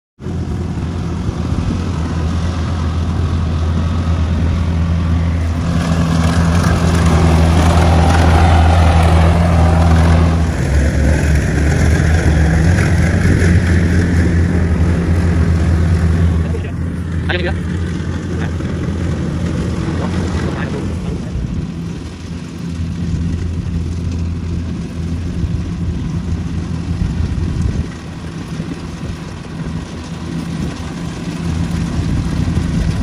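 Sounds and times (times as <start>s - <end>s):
diesel engine low hum: 0.2s - 33.0s
threshing machinery clatter: 5.5s - 33.0s.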